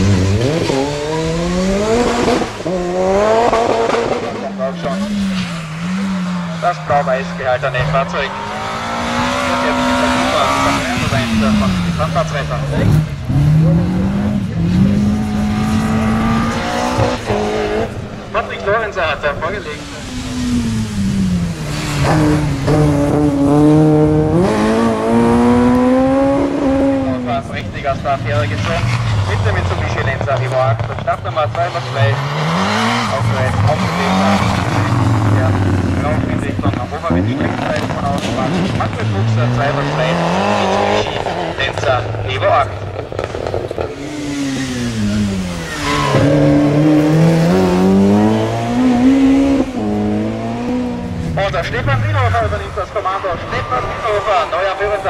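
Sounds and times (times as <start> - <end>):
rally car engine at high revs: 0.0 - 55.0.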